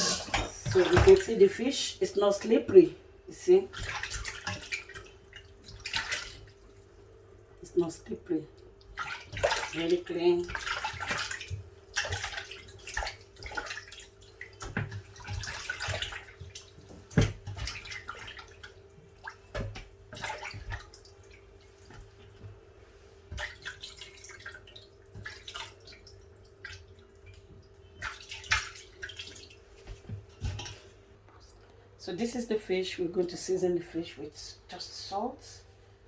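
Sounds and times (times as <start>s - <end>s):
faint steady hum: 0.0s - 36.0s
water splashing and dripping: 0.6s - 1.5s, 3.6s - 31.5s.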